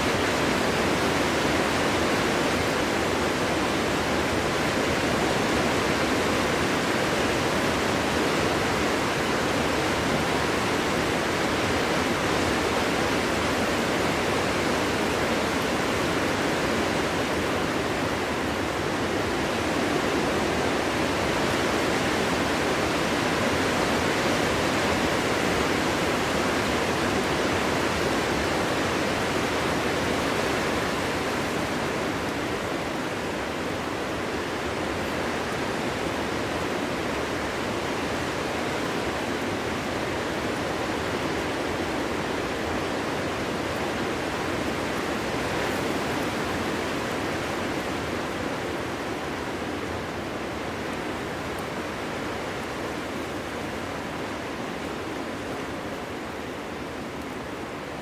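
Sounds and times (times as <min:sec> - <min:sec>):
wind blowing through forest: 0:00.0 - 0:58.0.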